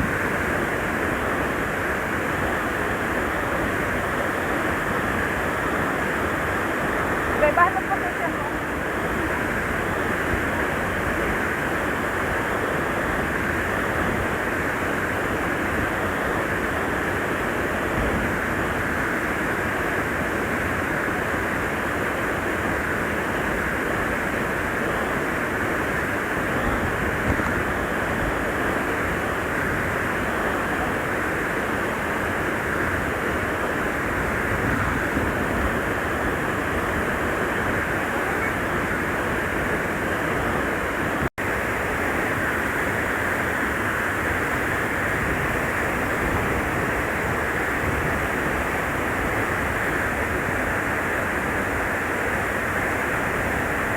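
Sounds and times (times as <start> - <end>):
waterfall and stream rushing: 0.0 - 53.9.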